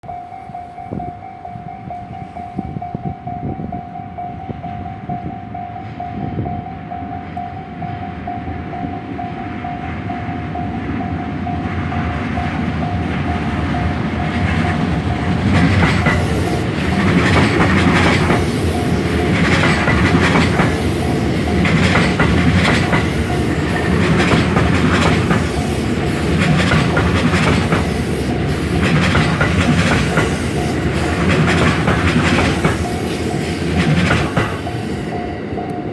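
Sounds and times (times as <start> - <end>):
electric train passing: 0.0 - 35.9
level-crossing warning bell: 0.0 - 35.9
train wheels clacking on rails: 0.1 - 35.9.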